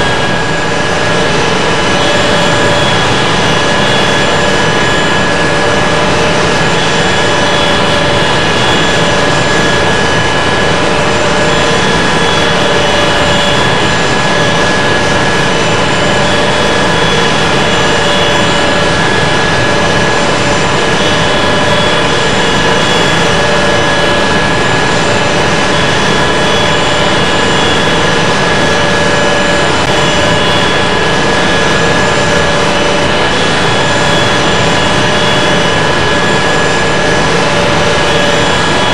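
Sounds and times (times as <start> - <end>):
jet engines in cabin: 0.0 - 38.9.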